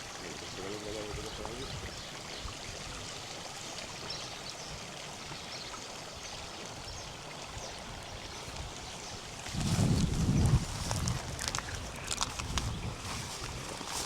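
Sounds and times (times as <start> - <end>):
river flowing over stones: 0.0 - 14.0.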